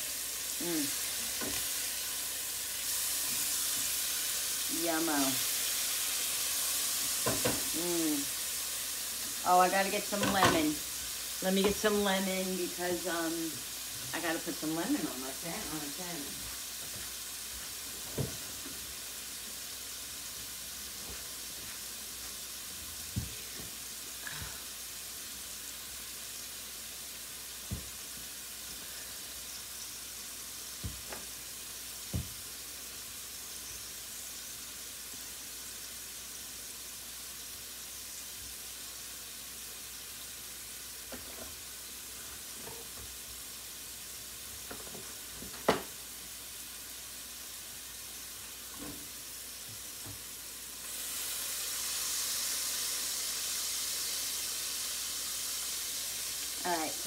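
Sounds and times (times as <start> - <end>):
food sizzling in skillets: 0.0 - 57.0.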